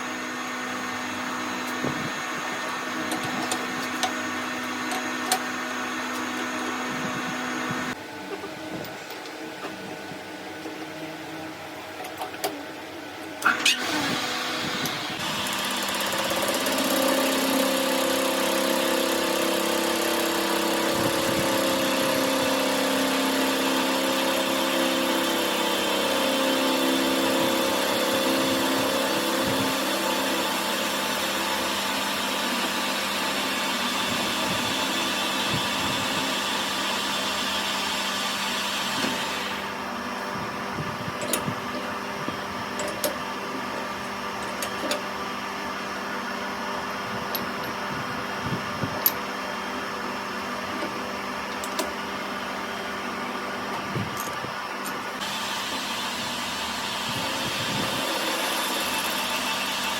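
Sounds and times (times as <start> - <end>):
machine tool humming: 0.0 - 8.0, 13.4 - 45.5, 47.3 - 59.9.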